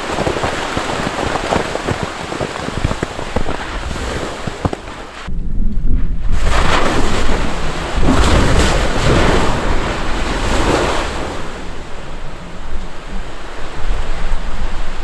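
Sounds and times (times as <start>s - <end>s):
volcano deep rumbling roar: 0.0s - 15.0s
wind buffeting microphone: 0.0s - 15.0s.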